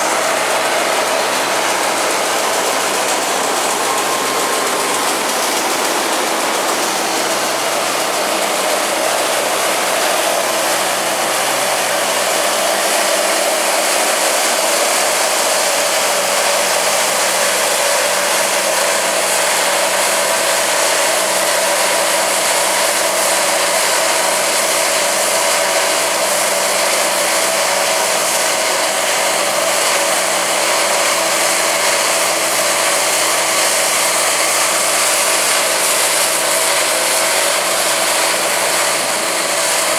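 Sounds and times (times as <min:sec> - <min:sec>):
combine harvester machinery whirr: 0:00.0 - 0:39.9.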